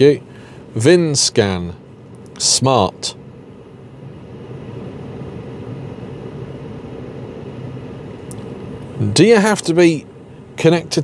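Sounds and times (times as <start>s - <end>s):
low mechanical rumble with hum: 0.0s - 11.0s.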